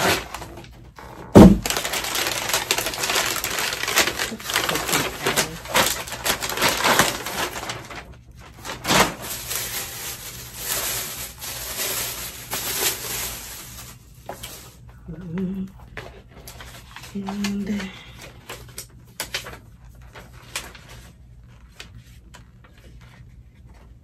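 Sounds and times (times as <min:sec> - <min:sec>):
packaging rustling and crinkling: 0:00.0 - 0:15.0, 0:15.9 - 0:24.0.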